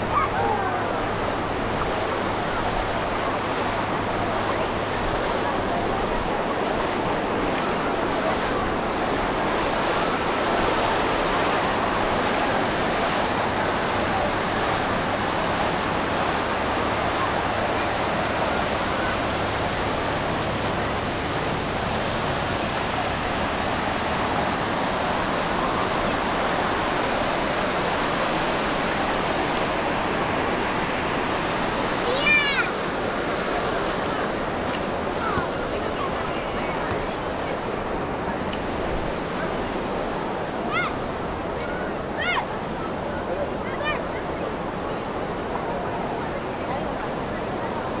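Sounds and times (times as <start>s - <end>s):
ocean waves breaking: 0.0s - 48.0s.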